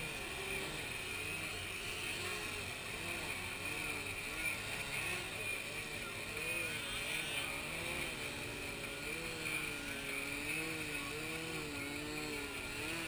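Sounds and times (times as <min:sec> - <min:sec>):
model plane engines whining: 0:00.0 - 0:13.0.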